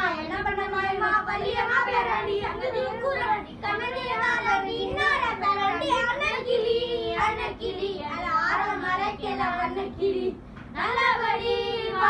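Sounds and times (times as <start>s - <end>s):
boys singing: 0.0s - 12.0s.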